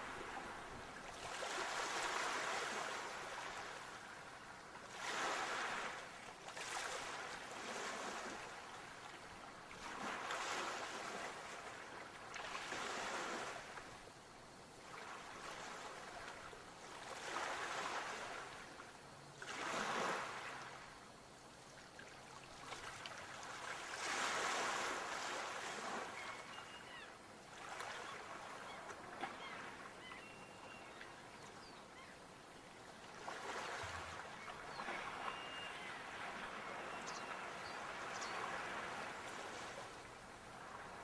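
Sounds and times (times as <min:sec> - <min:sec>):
sea waves breaking on shore: 0:00.0 - 0:14.1, 0:14.8 - 0:18.8, 0:19.4 - 0:21.0, 0:21.9 - 0:31.4, 0:32.0 - 0:41.0.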